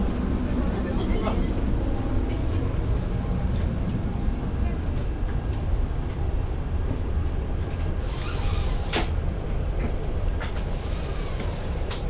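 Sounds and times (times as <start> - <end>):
low rumble of aircraft cabin: 0.0 - 12.0.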